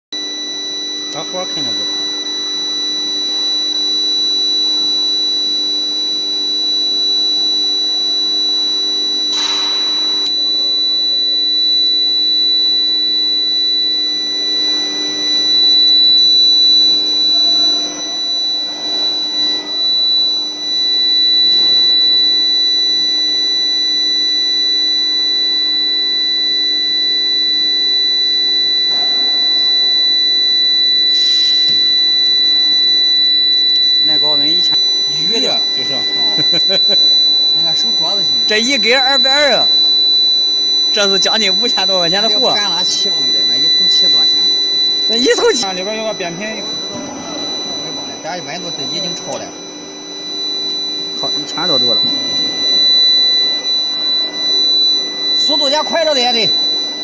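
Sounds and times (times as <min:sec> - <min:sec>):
high-pitched machine whine: 0:00.2 - 0:57.0.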